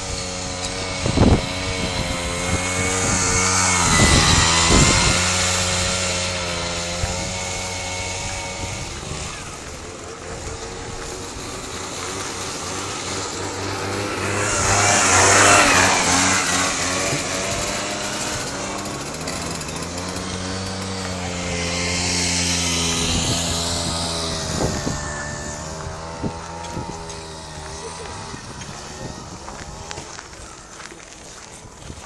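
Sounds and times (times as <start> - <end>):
scooter engine revving: 0.0 - 32.0
wheel spinning on ice: 0.0 - 32.0.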